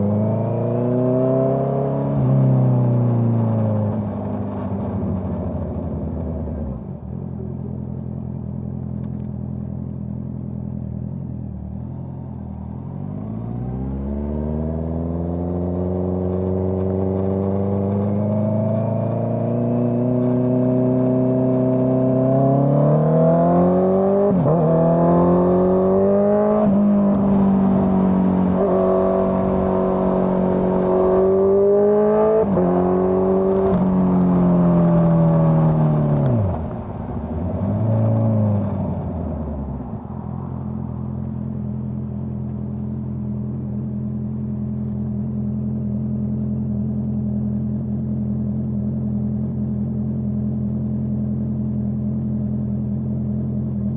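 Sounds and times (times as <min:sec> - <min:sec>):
motorcycle engine revving: 0:00.0 - 0:05.6, 0:12.7 - 0:53.9.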